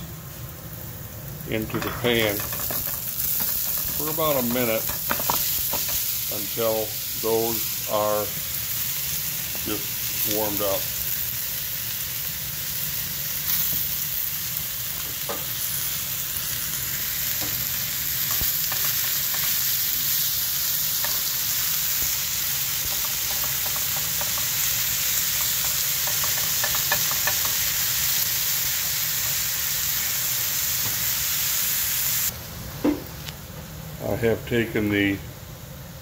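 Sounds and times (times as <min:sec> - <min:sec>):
vegetables sizzling in oil: 0:00.0 - 0:33.2.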